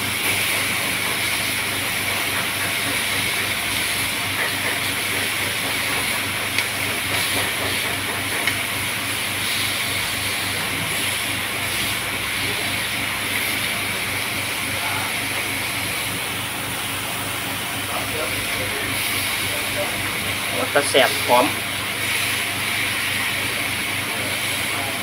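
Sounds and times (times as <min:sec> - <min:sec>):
meat sizzling in a grill pan: 0:00.2 - 0:15.2, 0:18.5 - 0:25.0.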